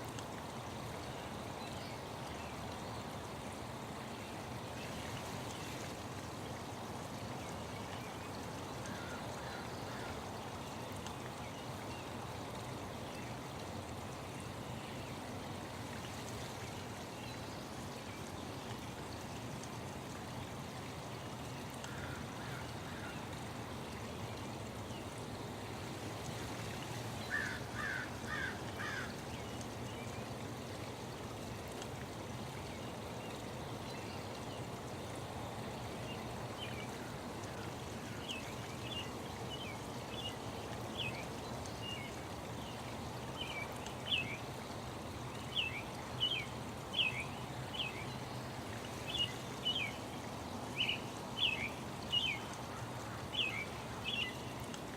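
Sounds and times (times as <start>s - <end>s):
running water: 0.0s - 54.9s.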